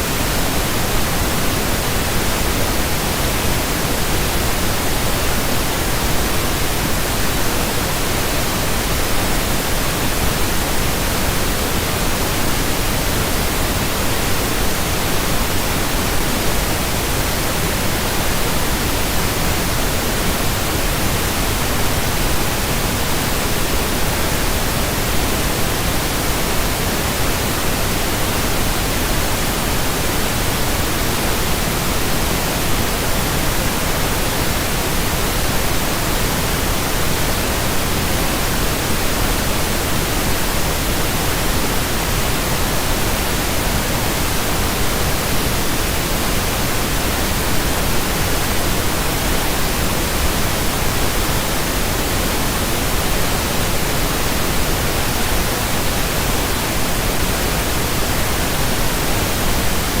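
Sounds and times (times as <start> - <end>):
pink noise hiss: 0.0 - 60.0.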